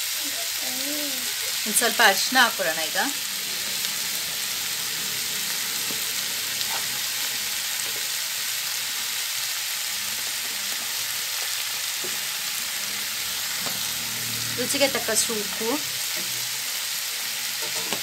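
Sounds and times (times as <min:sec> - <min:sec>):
mushrooms sizzling in oil: 0:00.0 - 0:18.0.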